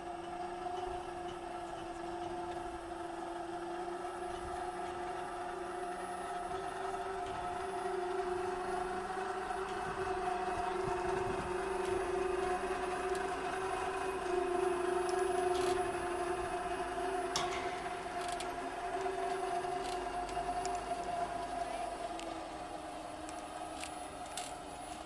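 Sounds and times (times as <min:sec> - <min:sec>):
mechanical hum with whine: 0:00.0 - 0:25.0.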